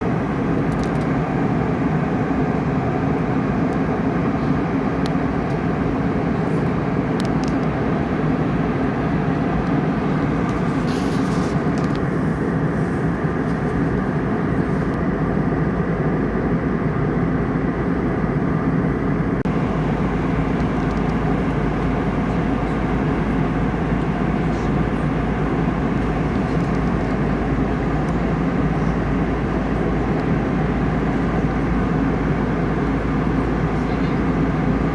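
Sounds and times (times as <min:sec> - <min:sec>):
airliner cabin engine roar: 0:00.0 - 0:34.9.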